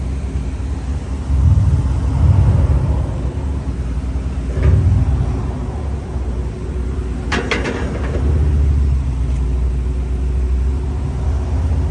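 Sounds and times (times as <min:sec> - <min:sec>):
diesel truck engine rumbling: 0:00.0 - 0:11.9.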